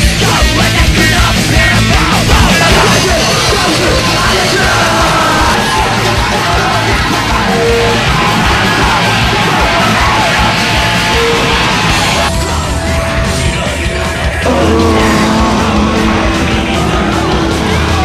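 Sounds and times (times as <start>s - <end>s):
heavy punk metal music: 0.0s - 18.0s
yelled vocals: 0.0s - 18.0s.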